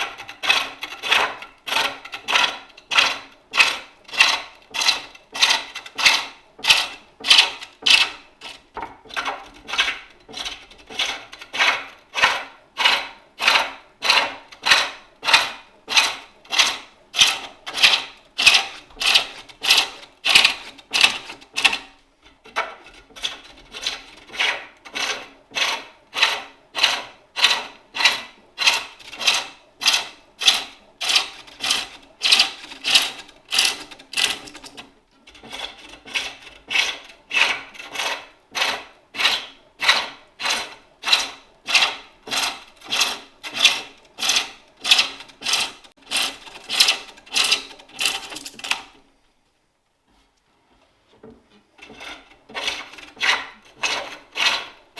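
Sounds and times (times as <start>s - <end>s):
lathe tool scraping wood: 0.0s - 49.0s, 51.5s - 54.9s.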